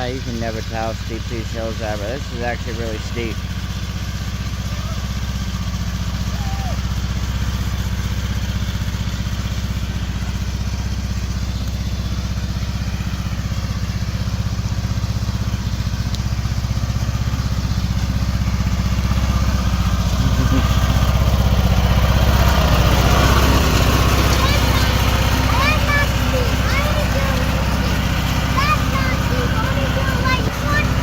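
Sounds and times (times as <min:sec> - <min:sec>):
riding lawn mower engine running: 0:00.0 - 0:31.0.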